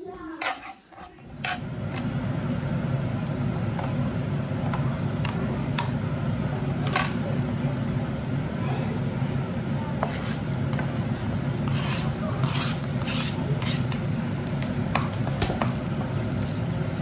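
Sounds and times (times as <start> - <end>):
kitchen fan humming: 0.0 - 17.0.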